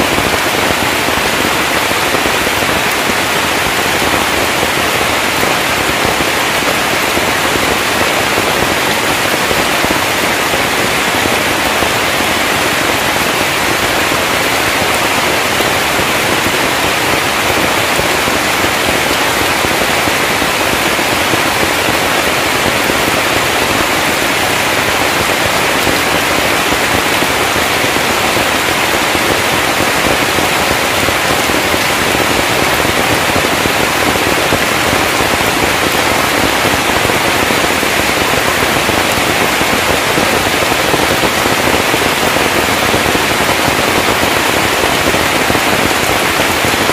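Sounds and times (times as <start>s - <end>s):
heavy rain on thatched roof: 0.0s - 46.9s.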